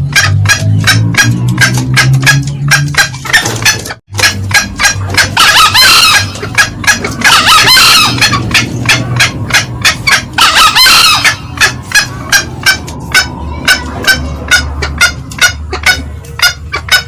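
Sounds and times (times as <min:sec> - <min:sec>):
junglefowl cackling: 0:00.0 - 0:17.0
junglefowl clucking: 0:00.0 - 0:17.0.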